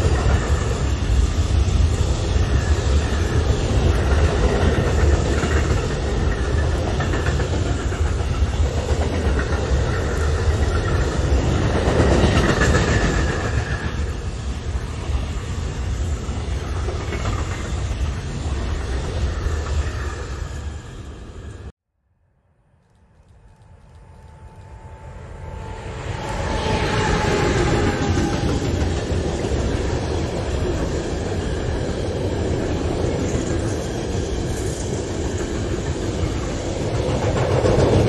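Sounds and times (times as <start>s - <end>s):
train wheels rumbling on rails: 0.0s - 21.7s, 22.8s - 38.0s.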